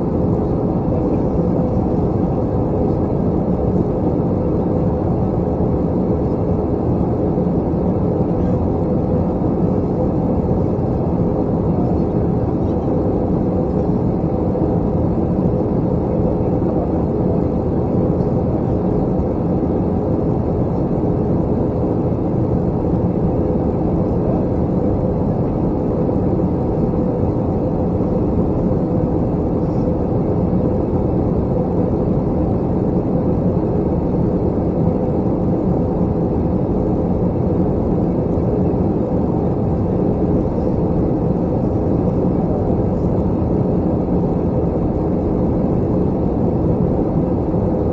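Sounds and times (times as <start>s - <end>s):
airliner cabin engine drone: 0.0s - 47.9s.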